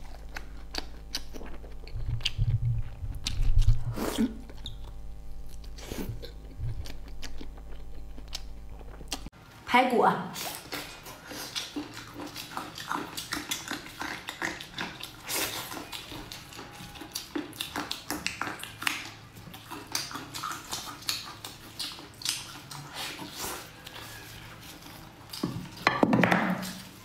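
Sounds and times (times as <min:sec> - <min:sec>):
person chewing: 0:00.0 - 0:09.3, 0:10.4 - 0:25.8.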